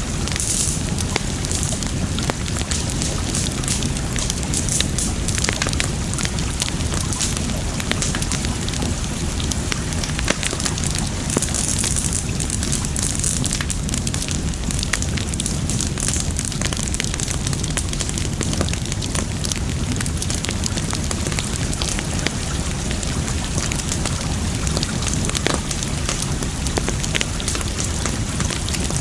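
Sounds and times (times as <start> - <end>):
rushing water: 0.0 - 29.0
wood fire crackling and popping: 0.0 - 29.0.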